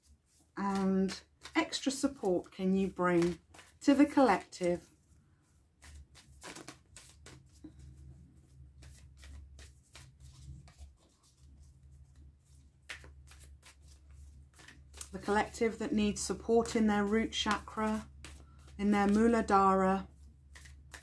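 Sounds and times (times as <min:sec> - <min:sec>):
cards being shuffled: 0:00.0 - 0:21.0.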